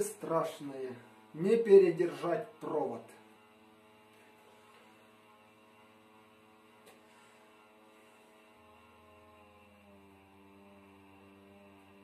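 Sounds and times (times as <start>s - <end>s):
power supply humming: 0.0s - 12.0s.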